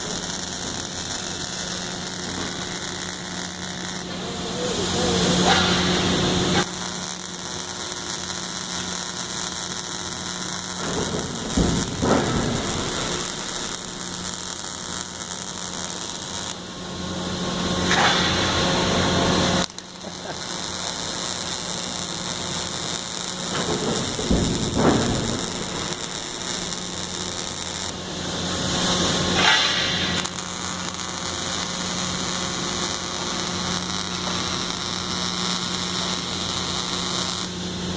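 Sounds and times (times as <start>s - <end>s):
welder hum: 0.0s - 37.9s
welding arc crackling: 0.0s - 37.9s.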